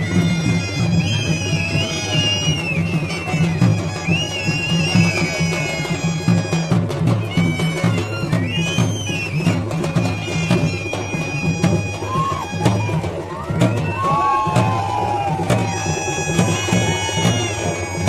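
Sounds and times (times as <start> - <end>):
bagpipe melody: 0.0 - 14.5, 15.4 - 18.0
sharp percussion strokes: 0.0 - 18.0
steady drum rhythm: 0.0 - 18.0.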